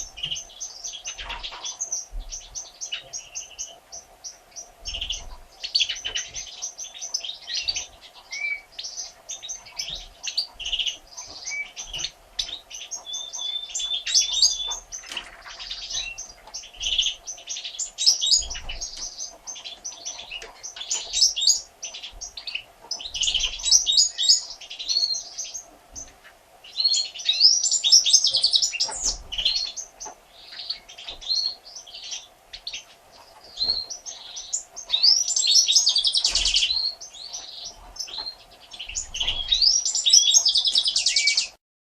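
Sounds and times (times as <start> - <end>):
finches chirping and twittering: 0.0 - 41.6.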